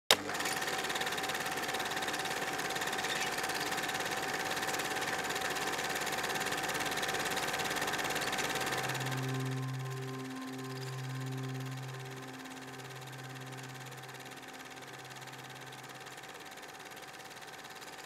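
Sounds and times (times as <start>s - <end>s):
small machine clattering and whining: 0.1s - 18.0s.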